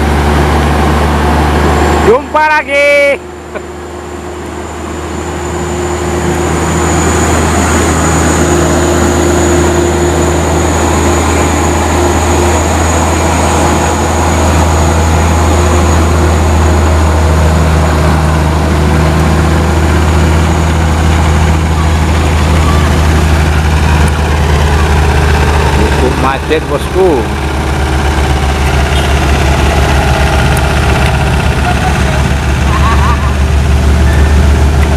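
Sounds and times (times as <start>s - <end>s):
truck diesel engine under load: 0.0s - 34.9s.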